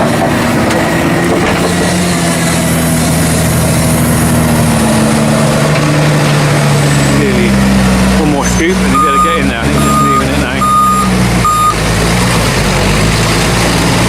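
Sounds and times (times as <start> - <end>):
diesel engine droning under load: 0.0 - 14.0.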